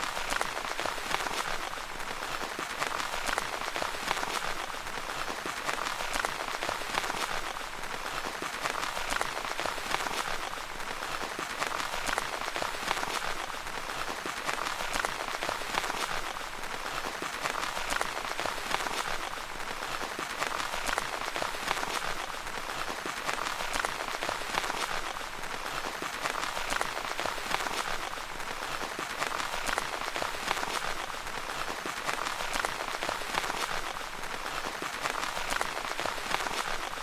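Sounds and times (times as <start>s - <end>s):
rain pattering on tent fabric: 0.0s - 37.0s.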